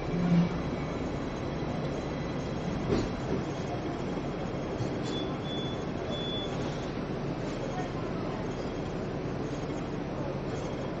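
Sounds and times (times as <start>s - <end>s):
street noise: 0.0s - 11.0s
tram rumbling hum: 0.0s - 11.0s.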